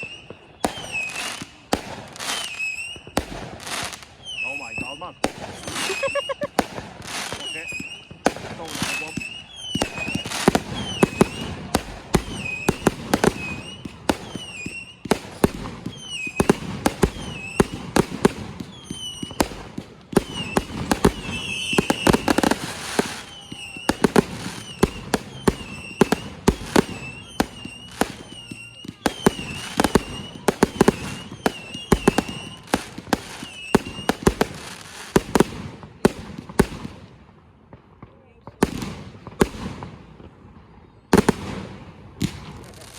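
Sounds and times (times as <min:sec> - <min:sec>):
firework whistles: 0:00.0 - 0:35.4
firework bangs: 0:00.0 - 0:42.9
firework crackling: 0:00.0 - 0:42.9.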